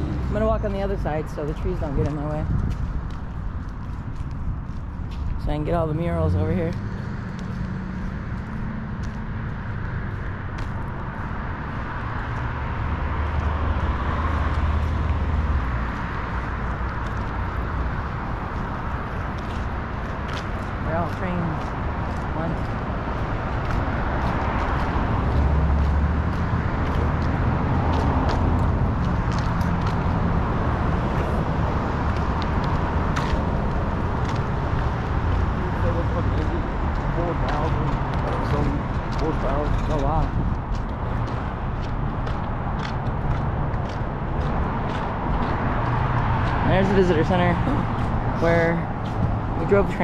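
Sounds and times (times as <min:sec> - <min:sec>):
road traffic rumble: 0:00.0 - 0:50.0
street noise: 0:00.0 - 0:50.0
vehicle approaching: 0:00.0 - 0:50.0.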